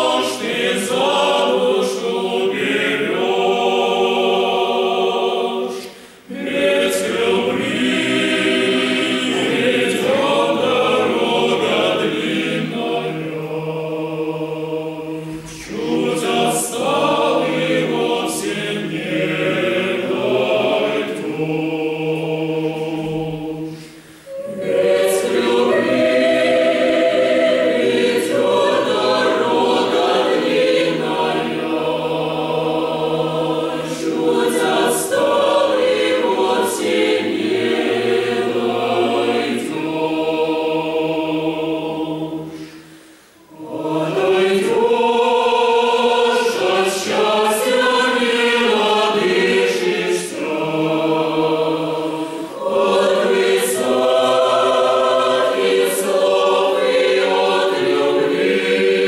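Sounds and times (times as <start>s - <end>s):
mixed choir singing a cappella: 0.0s - 59.0s.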